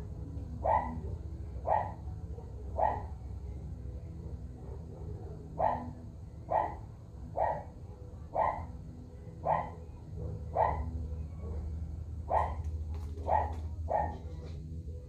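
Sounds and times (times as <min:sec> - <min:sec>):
dog barking: 0:00.6 - 0:03.3, 0:04.2 - 0:08.8, 0:09.4 - 0:14.5.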